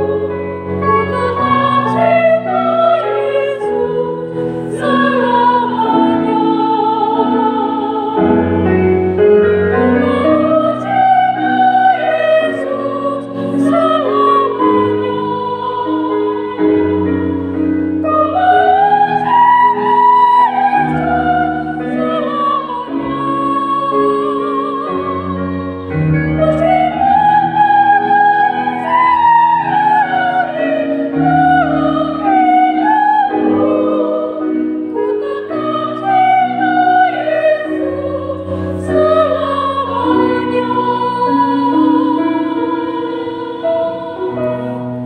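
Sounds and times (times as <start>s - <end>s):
classical singing voice: 0.0s - 45.0s.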